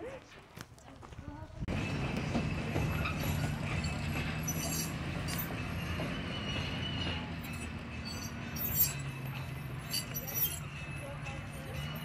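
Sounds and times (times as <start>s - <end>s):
locomotive engine idling hum: 1.4s - 12.0s.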